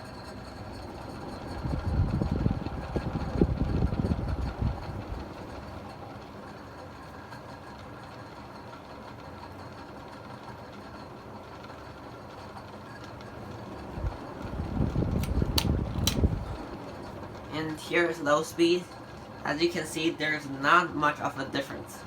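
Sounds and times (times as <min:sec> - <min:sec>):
ceiling fan humming: 0:00.0 - 0:22.0.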